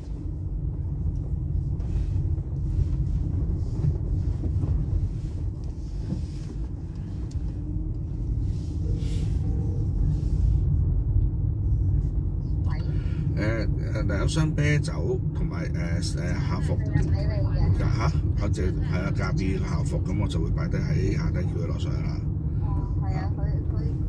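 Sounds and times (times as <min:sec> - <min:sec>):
car interior road and engine rumble: 0:00.0 - 0:24.0.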